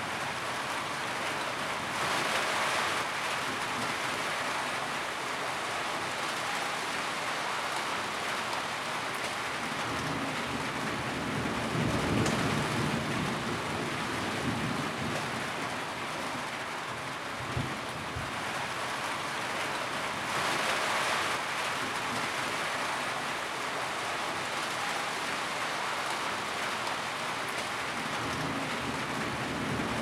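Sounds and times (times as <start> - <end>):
rain drumming on a tin roof: 0.0 - 30.0.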